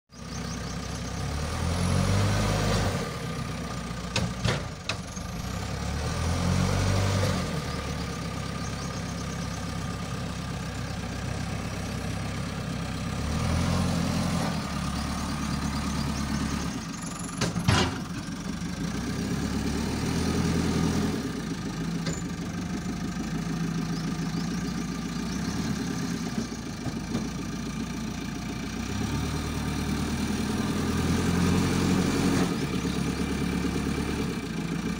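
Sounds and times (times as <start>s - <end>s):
diesel engine revving: 0.1s - 34.9s.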